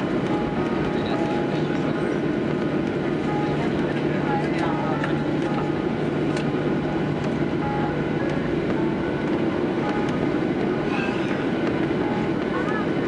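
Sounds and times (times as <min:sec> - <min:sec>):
jet cabin rumble and hum: 0:00.0 - 0:13.0.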